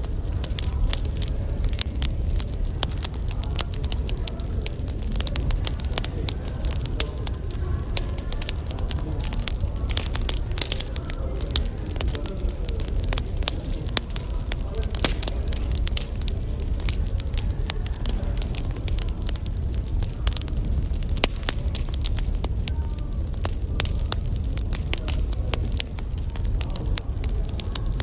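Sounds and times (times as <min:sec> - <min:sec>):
firewood crackling and popping: 0:00.0 - 0:28.0
low steady rumble: 0:00.0 - 0:28.0.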